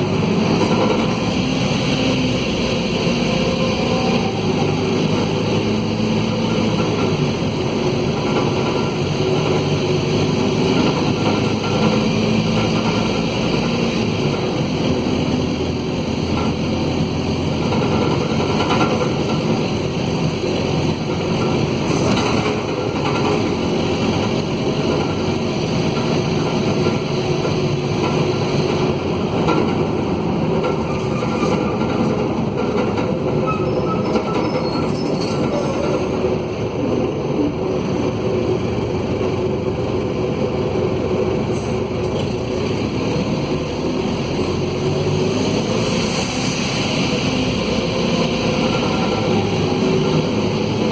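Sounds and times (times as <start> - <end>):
diesel bus engine with rasping exhaust: 0.0 - 50.9.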